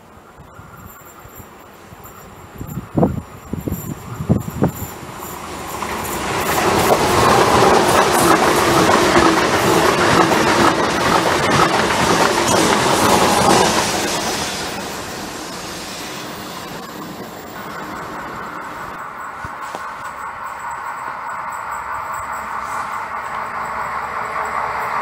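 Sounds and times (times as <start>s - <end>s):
train wheels clattering over rails: 2.6s - 25.0s.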